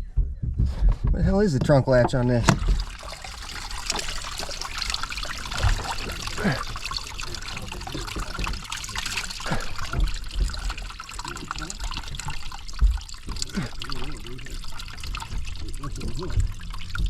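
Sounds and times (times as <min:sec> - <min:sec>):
water trickling: 0:02.0 - 0:17.0.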